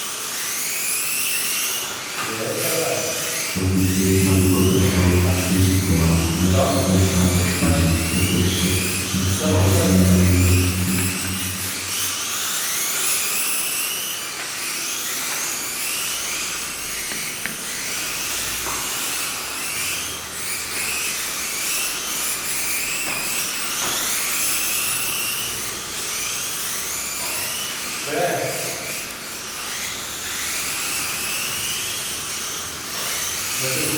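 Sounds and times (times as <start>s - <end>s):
small rc car motors whining: 0.0s - 33.9s.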